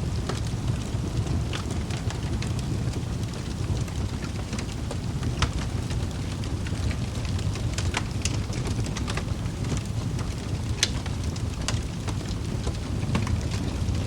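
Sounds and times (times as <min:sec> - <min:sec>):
fire flame rumble: 0:00.0 - 0:14.0
logs crackling and popping: 0:00.0 - 0:14.0.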